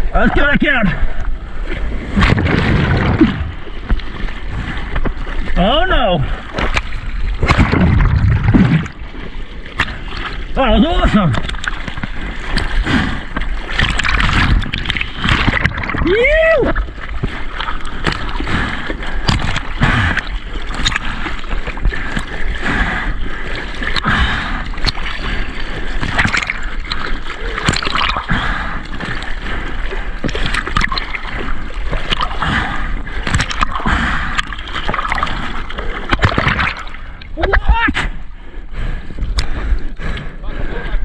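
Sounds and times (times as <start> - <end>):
seawater splashing and sloshing: 0.0 - 41.0.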